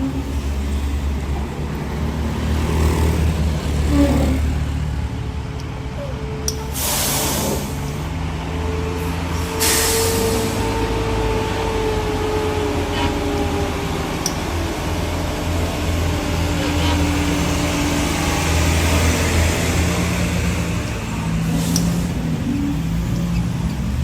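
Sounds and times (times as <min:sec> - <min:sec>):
truck diesel engine under load: 0:00.0 - 0:24.0.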